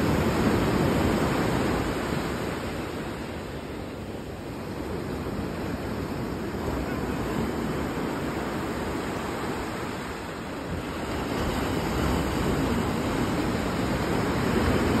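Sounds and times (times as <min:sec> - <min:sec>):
surf washing up a beach: 0:00.0 - 0:15.0.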